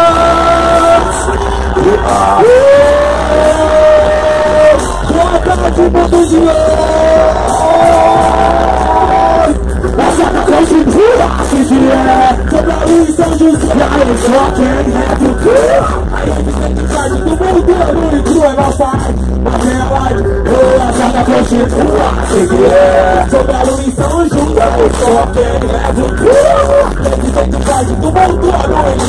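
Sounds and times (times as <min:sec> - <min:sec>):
hip-hop beat with heavy bass: 0:00.0 - 0:29.0
person singing: 0:00.0 - 0:29.0.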